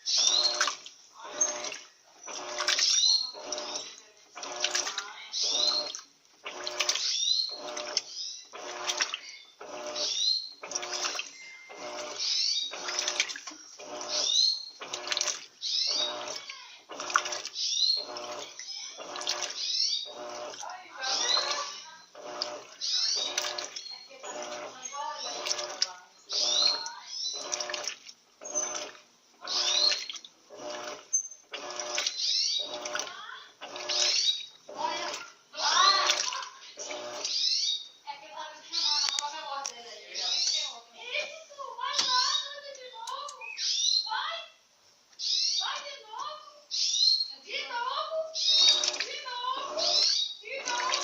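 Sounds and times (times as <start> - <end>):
motor hum: 0.0 - 44.3, 45.2 - 51.0
washing machine water sloshing: 0.0 - 44.3, 45.6 - 46.3, 47.5 - 51.0.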